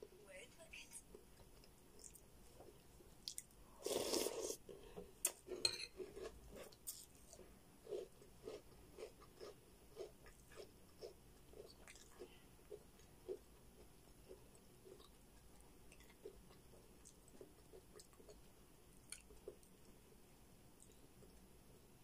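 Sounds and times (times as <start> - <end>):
person chewing cereal: 1.1 - 22.0.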